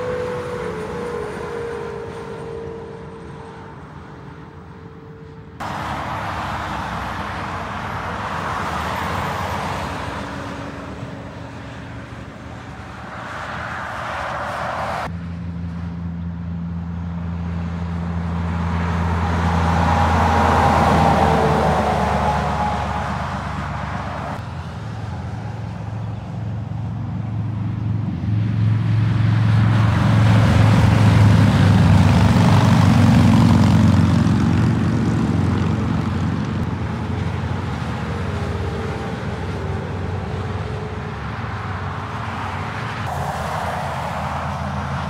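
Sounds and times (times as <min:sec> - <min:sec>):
diesel truck driving past: 0:00.0 - 0:45.0.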